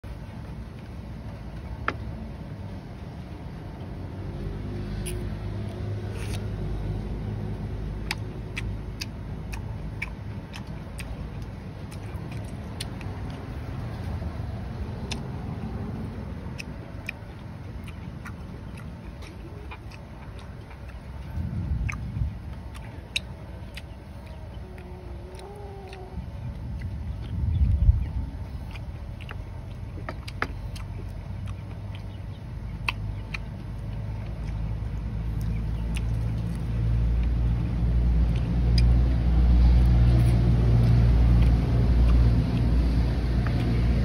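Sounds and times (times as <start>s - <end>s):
motor vehicle rumble: 0.0s - 44.0s
wet eating clicks and smacks: 3.7s - 44.0s.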